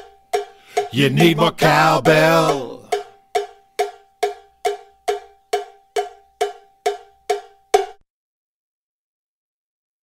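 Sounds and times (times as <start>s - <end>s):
cowbell strikes: 0.0s - 8.0s.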